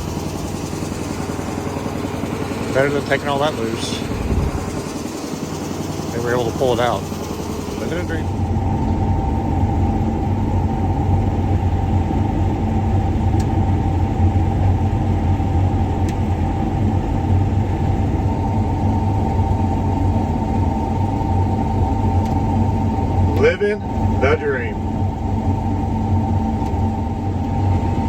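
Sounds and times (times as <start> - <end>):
combine engine drone: 0.0 - 28.0
high whine: 0.0 - 28.0.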